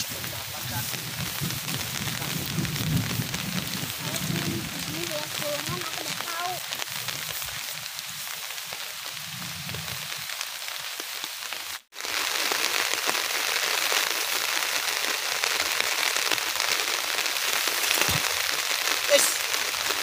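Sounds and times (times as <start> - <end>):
rain falling on grass: 0.0 - 20.0.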